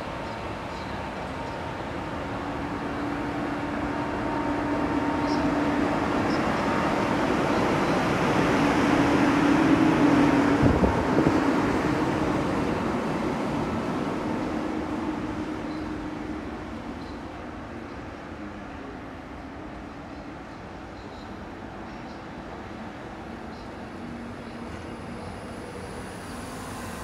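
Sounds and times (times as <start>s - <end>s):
electric locomotive humming past: 0.0s - 27.0s.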